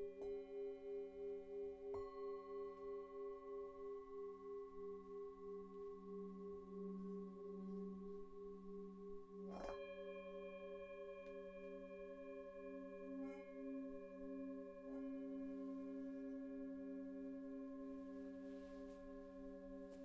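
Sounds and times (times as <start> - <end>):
singing bowls ringing: 0.0 - 20.0.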